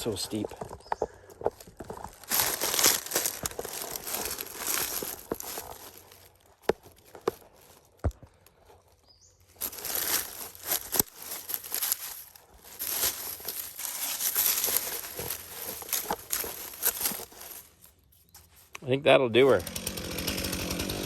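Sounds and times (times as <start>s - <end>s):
rustling in dry leaves: 0.0s - 18.8s.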